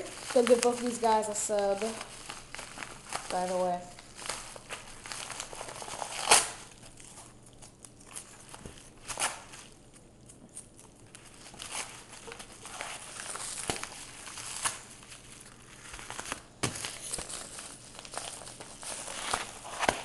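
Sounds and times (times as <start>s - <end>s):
paper envelope crinkling and tearing: 0.0s - 20.0s.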